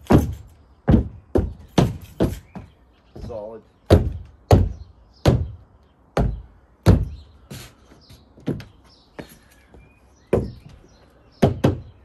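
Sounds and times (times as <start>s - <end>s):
boot footsteps on wooden floor: 0.0s - 4.9s, 6.2s - 11.8s.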